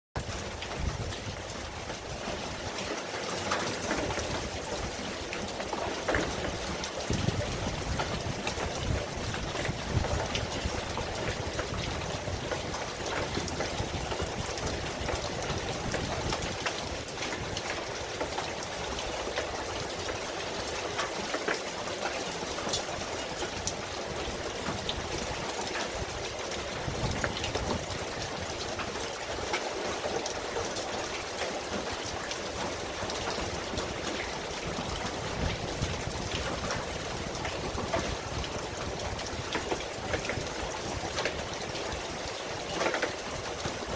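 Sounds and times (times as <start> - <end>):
raindrops pattering close by: 0.2 - 43.9.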